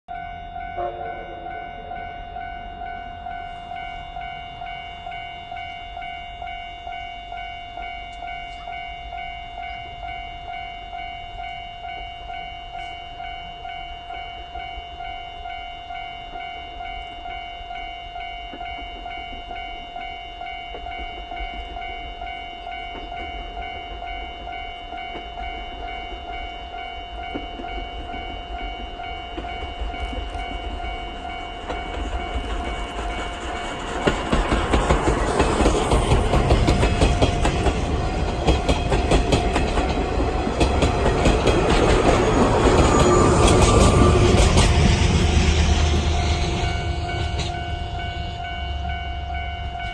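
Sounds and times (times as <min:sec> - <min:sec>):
level crossing alarm ringing: 0:00.1 - 0:49.9
rumble of approaching train: 0:00.1 - 0:49.9.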